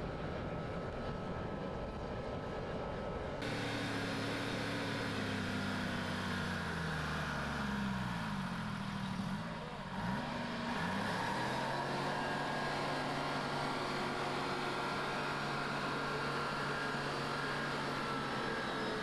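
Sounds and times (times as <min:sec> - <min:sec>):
tractor diesel engine working: 0:03.4 - 0:19.0.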